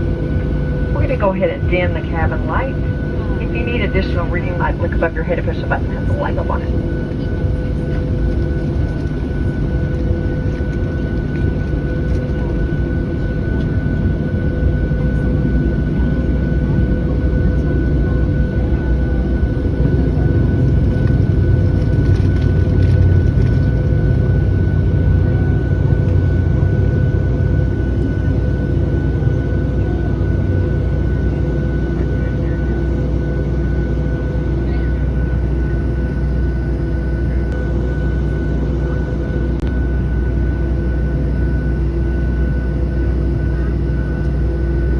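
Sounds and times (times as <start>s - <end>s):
aircraft engines idling rumble: 0.0s - 44.9s
constant engine whine: 0.0s - 44.9s.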